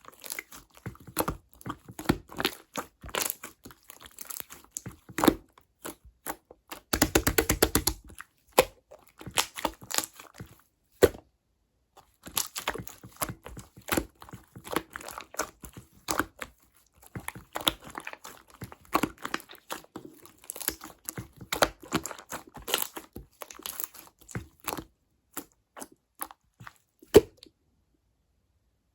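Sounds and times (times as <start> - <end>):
slime squishing and crackling: 0.0 - 11.2, 12.0 - 27.4.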